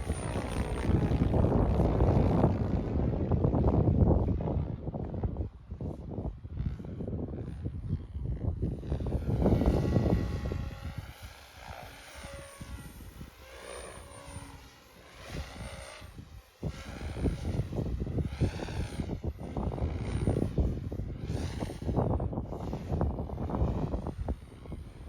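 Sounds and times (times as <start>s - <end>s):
rc helicopter rotor whine: 0.0s - 25.0s
wind rumbling on microphone: 0.0s - 25.0s.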